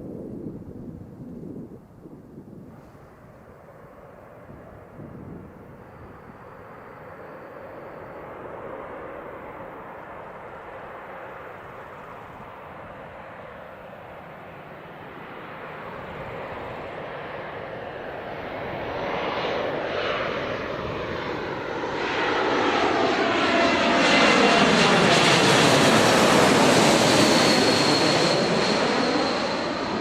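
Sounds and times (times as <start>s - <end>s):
jet airliner engines: 0.0s - 30.0s.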